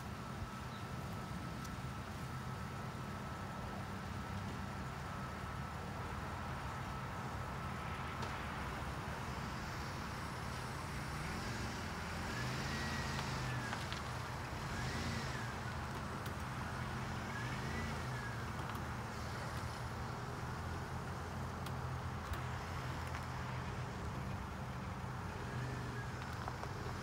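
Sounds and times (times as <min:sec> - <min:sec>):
engine running at low speed: 0:00.0 - 0:27.0.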